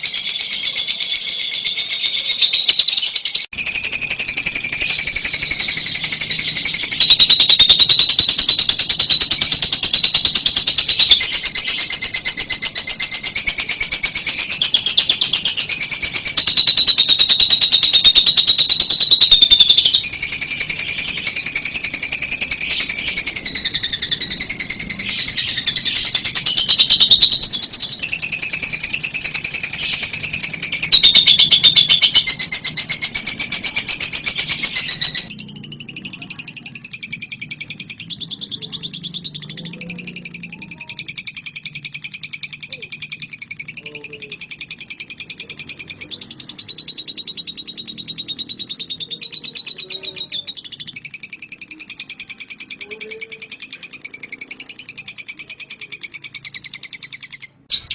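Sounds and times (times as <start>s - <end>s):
lovebird singing: 0.0s - 57.9s.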